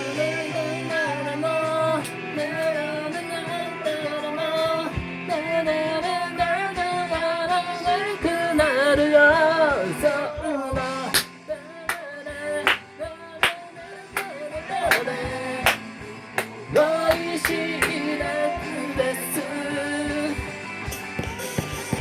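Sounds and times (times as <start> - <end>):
band backing music: 0.0 - 22.0
person singing: 0.0 - 22.0.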